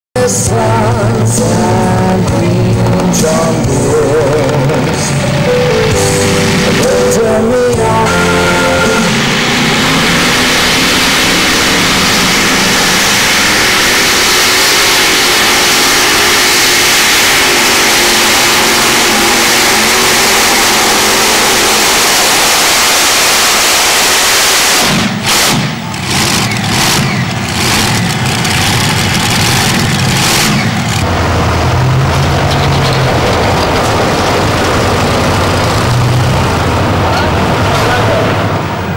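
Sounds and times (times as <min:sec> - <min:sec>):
tractor engines running under load: 0:00.2 - 0:38.9.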